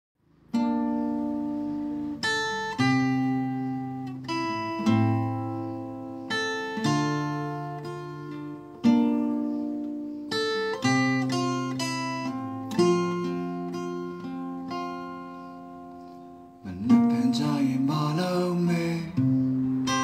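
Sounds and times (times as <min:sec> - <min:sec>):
acoustic guitar strumming: 0:00.4 - 0:20.0.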